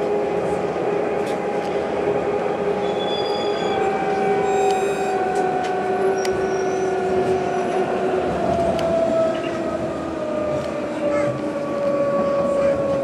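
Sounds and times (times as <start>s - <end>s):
tram running rumble: 0.0s - 13.0s
tram traction motors whining: 0.0s - 13.0s.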